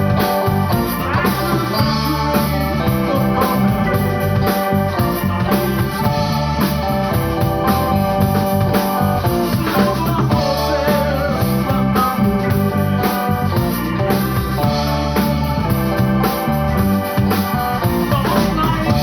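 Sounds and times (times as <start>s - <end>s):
drum kit: 0.0s - 19.0s
electric guitar: 0.0s - 19.0s
live rock band playing: 0.0s - 19.0s.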